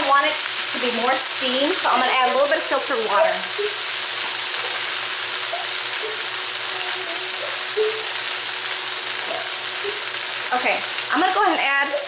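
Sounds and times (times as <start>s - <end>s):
stir-fry sizzling in a wok: 0.0s - 12.0s.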